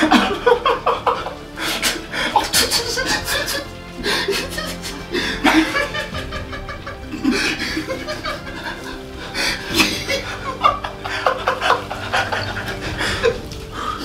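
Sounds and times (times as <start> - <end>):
men laughing: 0.0 - 14.0.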